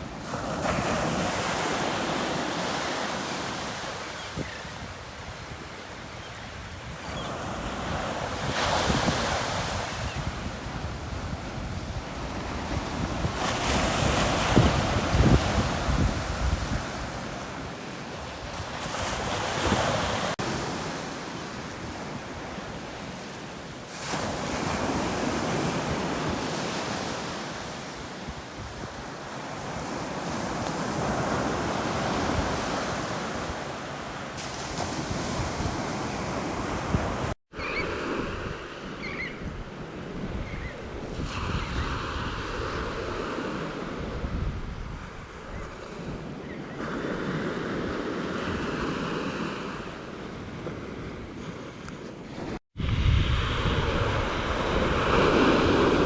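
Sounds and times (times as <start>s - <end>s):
ocean surf breaking on beach: 0.0s - 39.0s, 45.2s - 56.0s.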